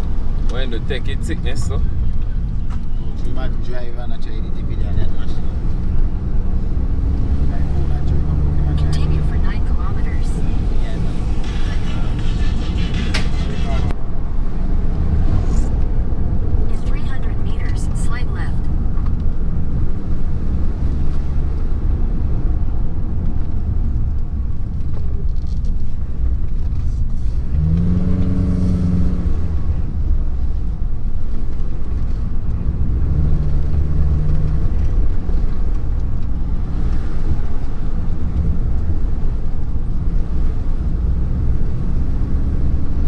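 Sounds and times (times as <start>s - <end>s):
car engine: 0.0s - 43.0s
road rumble: 0.0s - 43.0s.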